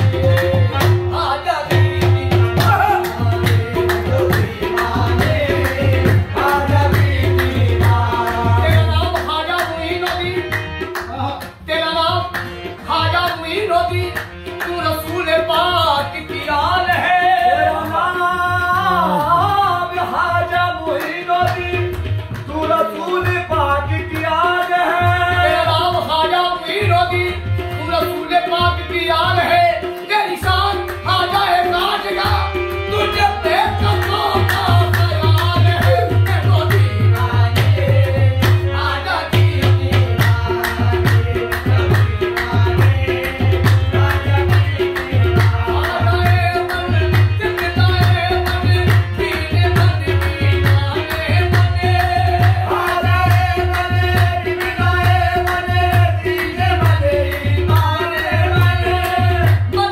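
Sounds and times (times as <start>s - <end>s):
harmonium: 0.0s - 59.9s
man singing: 0.0s - 59.9s
tabla beat: 0.0s - 59.9s.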